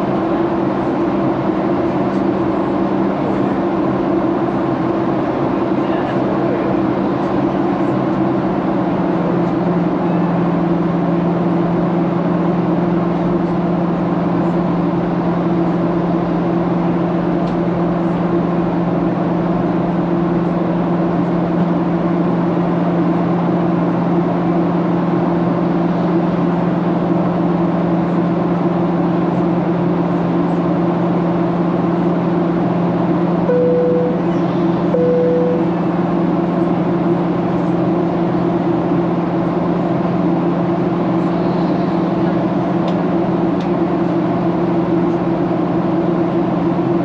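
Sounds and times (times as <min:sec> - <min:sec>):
airplane cabin engine noise: 0:00.0 - 0:47.0.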